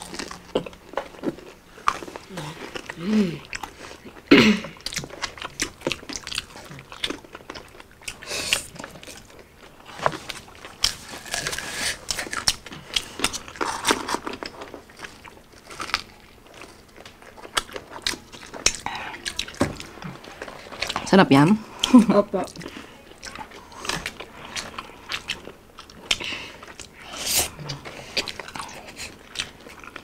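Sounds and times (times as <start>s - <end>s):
crunchy biting and chewing: 0.0s - 21.1s, 21.7s - 30.0s.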